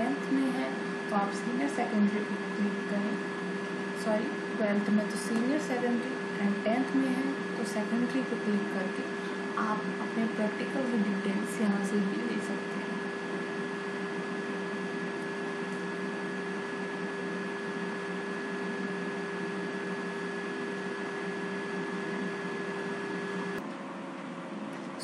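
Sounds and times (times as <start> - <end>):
electrical hum and hiss: 0.0 - 25.0.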